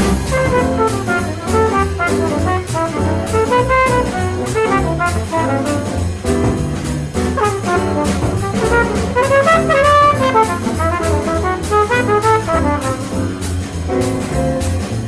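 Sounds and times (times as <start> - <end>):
trumpet playing fast notes: 0.0 - 6.3, 7.2 - 13.4
bass: 0.0 - 15.0.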